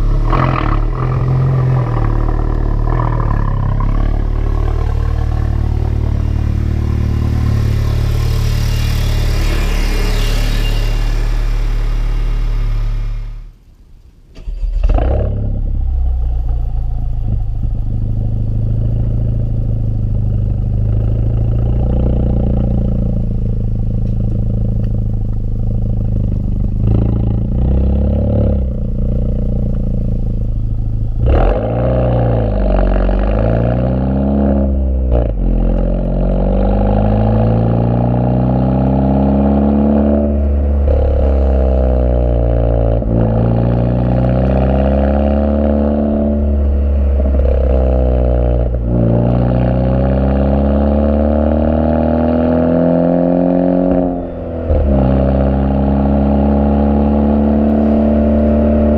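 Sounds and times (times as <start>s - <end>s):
car engine accelerating through gears: 0.0s - 13.7s, 14.4s - 58.9s.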